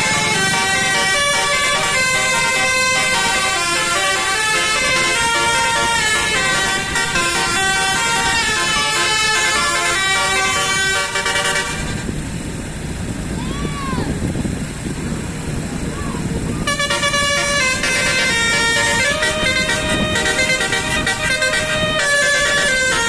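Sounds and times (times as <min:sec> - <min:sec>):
bus air horn playing a tune: 0:00.0 - 0:12.1, 0:16.6 - 0:23.0.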